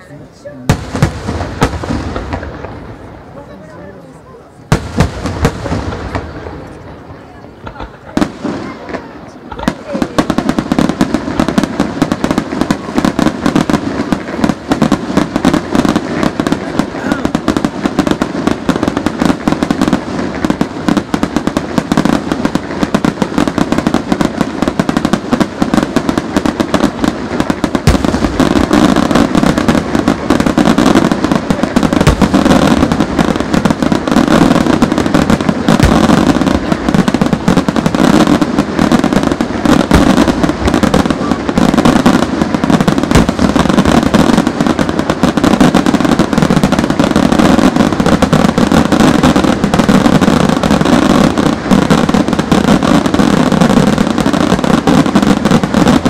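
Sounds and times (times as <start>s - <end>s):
firework bangs and crackling: 0.0s - 56.0s.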